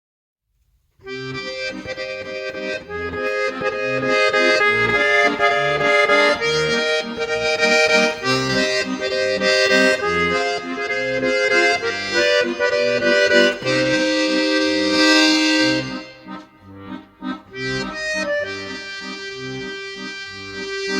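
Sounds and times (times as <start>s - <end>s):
button accordion playing a waltz: 1.0s - 20.9s.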